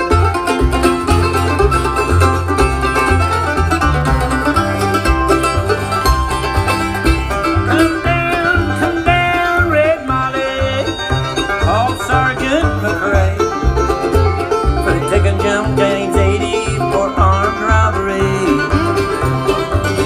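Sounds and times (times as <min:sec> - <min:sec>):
banjo rolls: 0:00.0 - 0:20.0
guitar: 0:00.0 - 0:20.0
steady bass line: 0:00.0 - 0:20.0.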